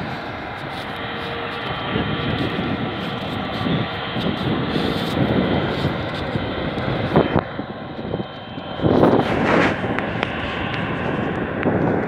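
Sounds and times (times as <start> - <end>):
jet engine rumble with whine: 0.0 - 12.0
rushing noise: 0.0 - 12.0.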